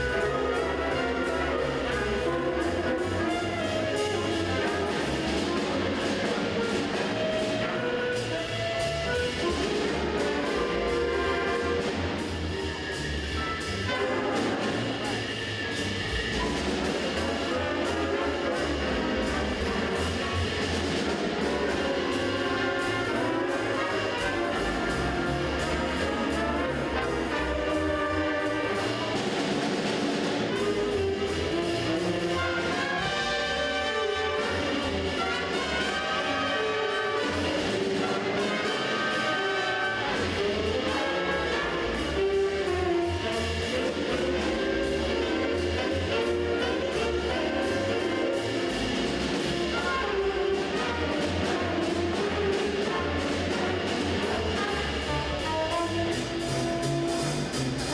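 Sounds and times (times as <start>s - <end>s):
jazz band playing swing: 0.0s - 57.9s.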